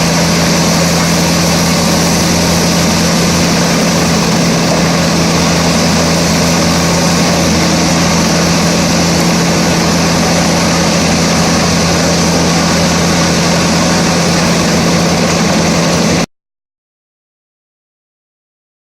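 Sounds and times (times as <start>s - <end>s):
wood chipper running: 0.0s - 16.3s.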